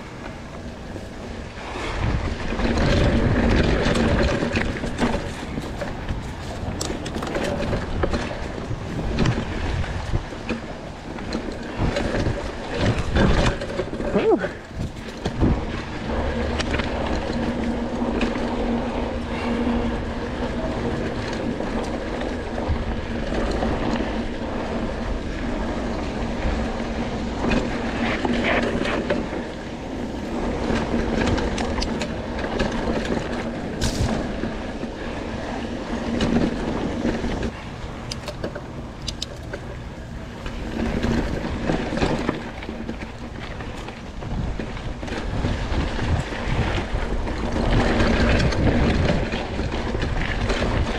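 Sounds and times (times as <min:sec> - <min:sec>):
bike clicking and rattling: 0:00.0 - 0:50.9
bike tyres rolling on dirt: 0:00.0 - 0:50.9.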